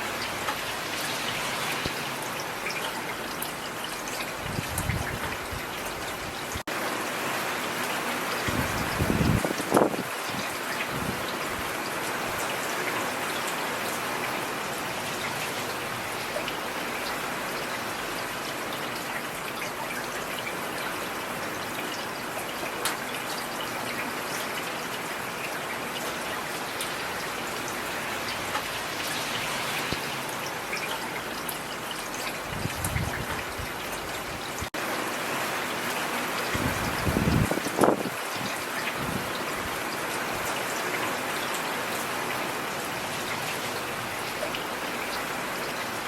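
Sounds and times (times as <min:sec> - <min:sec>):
rain falling on street: 0:00.0 - 0:46.0.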